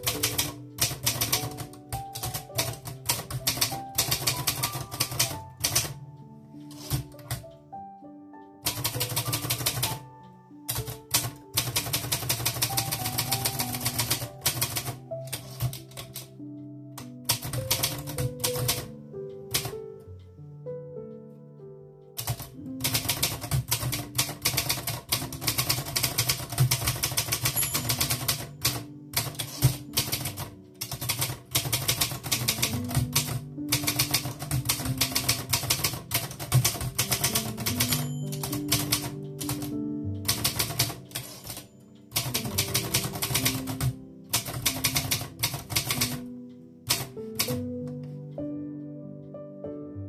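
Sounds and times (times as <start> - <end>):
typewriter key strikes: 0.0 - 6.0, 6.6 - 7.5, 8.6 - 10.1, 10.7 - 16.3, 17.0 - 18.9, 19.5 - 19.8, 22.2 - 48.0
background music: 0.0 - 50.0.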